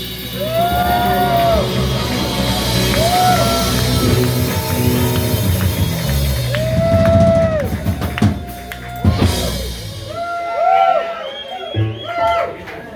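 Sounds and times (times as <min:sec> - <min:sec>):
live rock band playing: 0:00.0 - 0:10.4.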